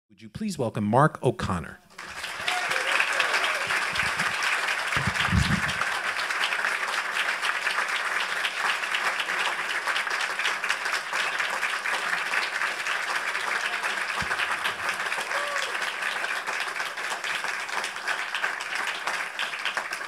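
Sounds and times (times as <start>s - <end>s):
audience applauding: 1.9s - 20.0s.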